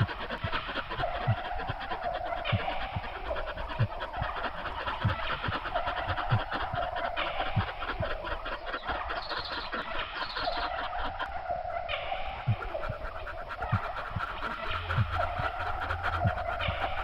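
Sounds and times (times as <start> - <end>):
bird calls: 0.0 - 17.0.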